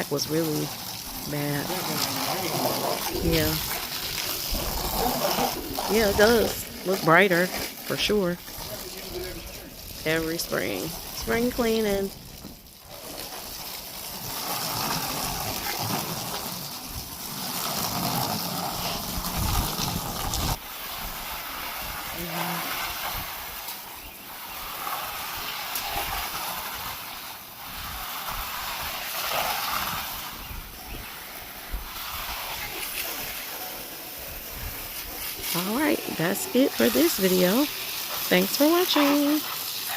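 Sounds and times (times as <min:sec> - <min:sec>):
water spraying: 0:00.0 - 0:39.9.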